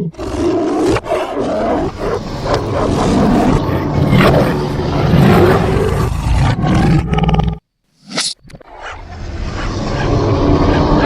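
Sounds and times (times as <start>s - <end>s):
tiger roaring: 0.0s - 7.6s, 8.6s - 11.0s.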